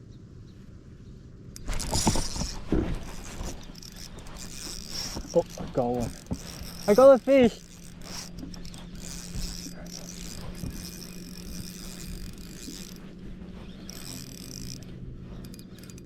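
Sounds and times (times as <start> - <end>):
fishing reel gears cranking: 1.6 - 16.0.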